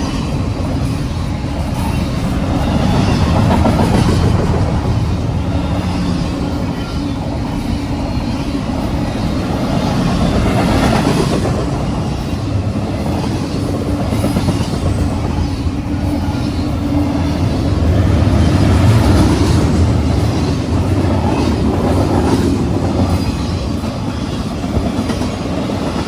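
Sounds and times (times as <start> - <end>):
train wheels on rail: 0.0 - 26.0.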